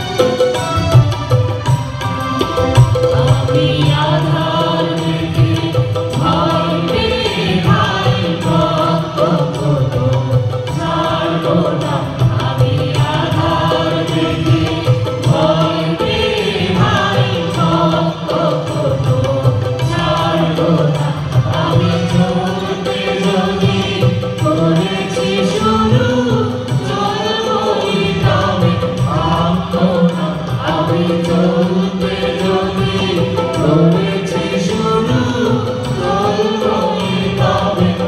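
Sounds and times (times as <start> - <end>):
group singing into microphones: 0.0 - 38.0.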